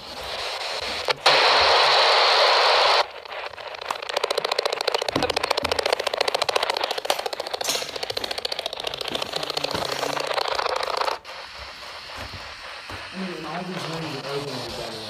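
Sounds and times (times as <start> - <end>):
pulsing radio static: 0.0 - 15.0.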